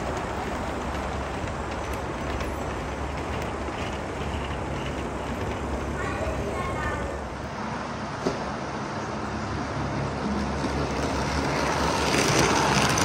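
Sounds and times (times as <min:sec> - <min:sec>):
model train wheels rumbling on rails: 0:00.0 - 0:07.6, 0:09.0 - 0:13.0.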